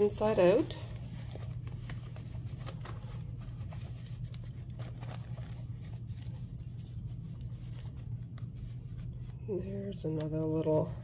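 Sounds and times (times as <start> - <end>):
fabric pouch rustling: 0.0 - 9.8
low hum: 0.0 - 11.0.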